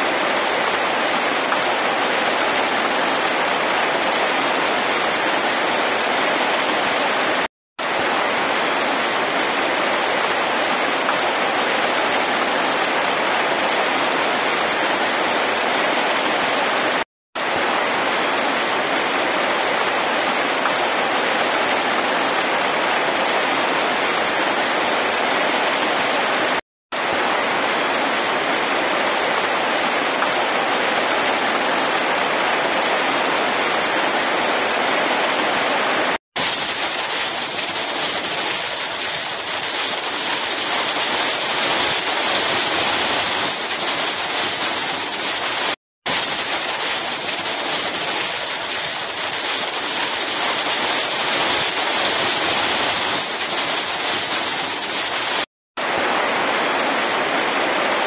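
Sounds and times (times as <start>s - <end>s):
heavy rain on pavement: 0.0s - 58.0s.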